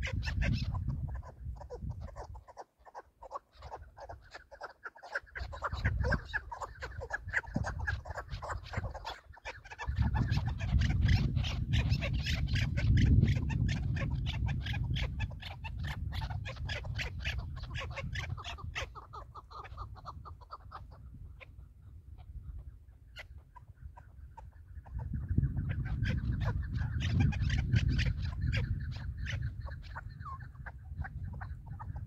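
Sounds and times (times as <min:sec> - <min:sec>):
partridges calling: 0:00.0 - 0:32.0.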